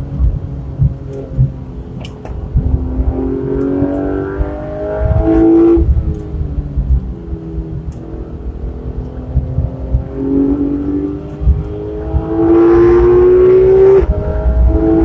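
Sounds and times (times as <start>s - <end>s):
car engine accelerating: 0.0s - 15.0s
tyre and road rumble: 0.0s - 15.0s.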